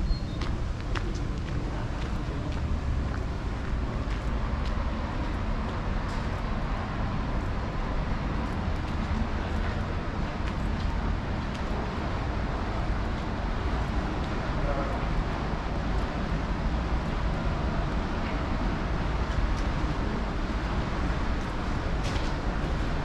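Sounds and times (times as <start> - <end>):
road traffic: 0.0 - 23.0
faint footsteps: 0.4 - 20.2.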